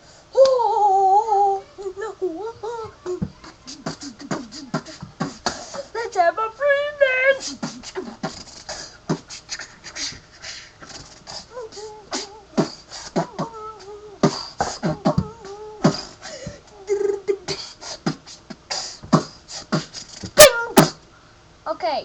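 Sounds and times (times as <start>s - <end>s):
person humming notes: 0.4s - 10.2s, 10.9s - 21.0s
person beatboxing: 1.8s - 6.2s, 7.2s - 21.0s.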